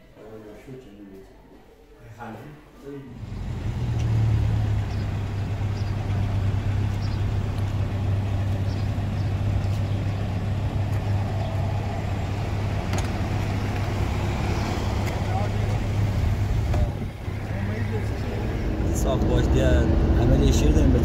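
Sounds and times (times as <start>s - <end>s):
road noise: 3.0s - 21.0s
vehicle engine drone: 3.1s - 21.0s.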